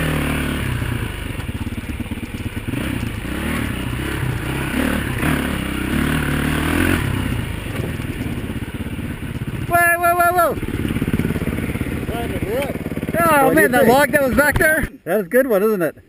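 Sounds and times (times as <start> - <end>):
motorcycle engine revving: 0.0 - 15.3.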